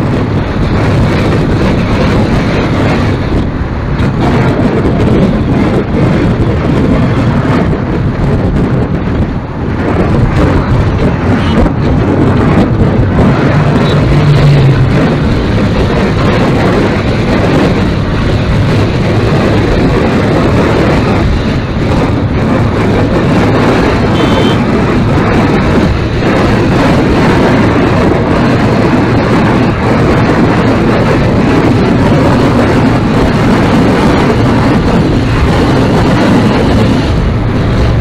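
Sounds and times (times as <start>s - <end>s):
low drone: 0.0s - 38.0s
vehicle road and engine noise: 0.0s - 38.0s
wind rushing on microphone: 0.0s - 38.0s.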